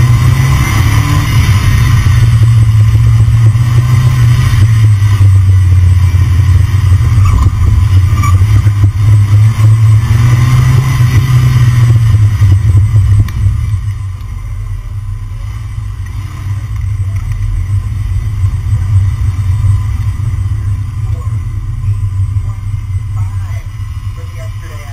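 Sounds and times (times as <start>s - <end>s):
car road rumble: 0.0s - 24.9s.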